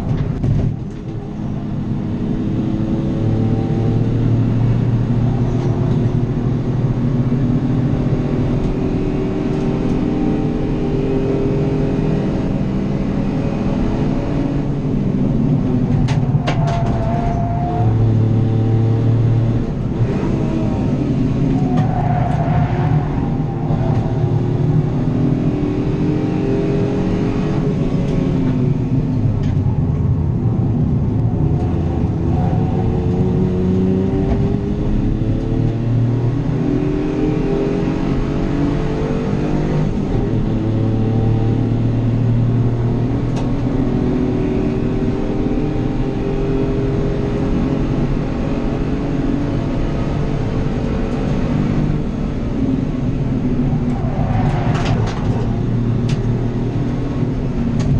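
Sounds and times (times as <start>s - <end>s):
race car engine accelerating: 0.0s - 57.9s.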